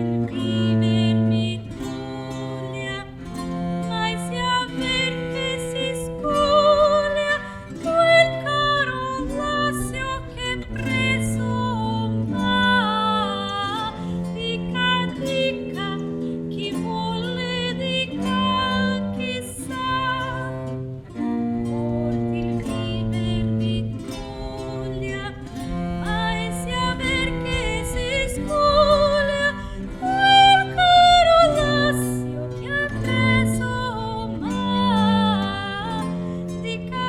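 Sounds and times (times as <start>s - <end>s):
plucked strings: 0.0s - 37.0s
sustained bass line: 0.0s - 37.0s.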